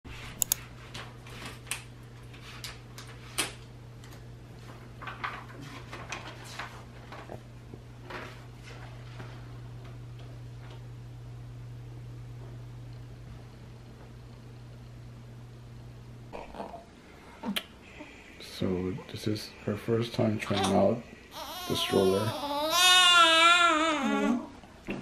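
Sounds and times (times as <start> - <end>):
steady low hum: 0.1 - 25.0.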